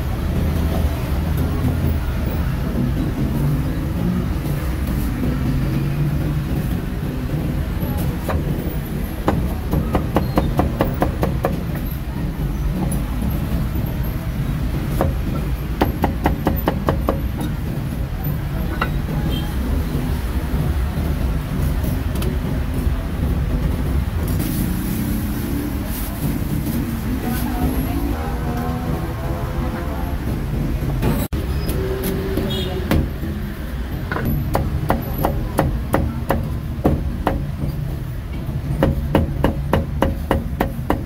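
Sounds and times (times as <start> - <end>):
low traffic rumble: 0.0 - 41.0.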